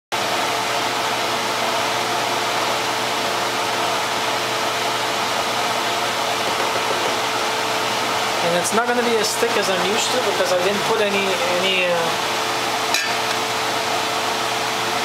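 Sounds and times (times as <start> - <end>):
fan rushing: 0.2 - 15.0.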